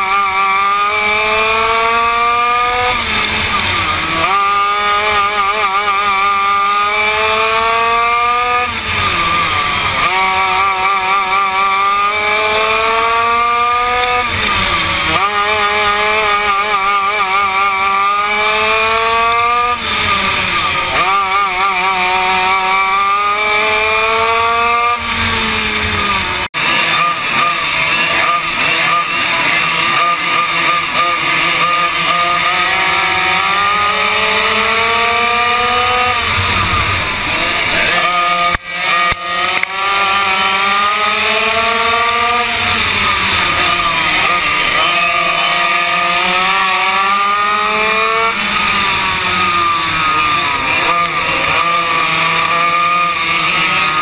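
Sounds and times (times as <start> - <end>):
kart engine at racing speed: 0.0 - 54.0
other kart engines: 0.0 - 54.0.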